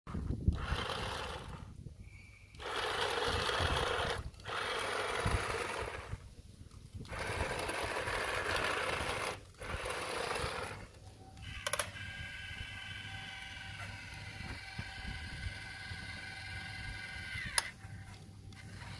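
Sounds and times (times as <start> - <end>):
small electric motor whirring: 0.2 - 1.8, 2.5 - 6.2, 7.0 - 18.9.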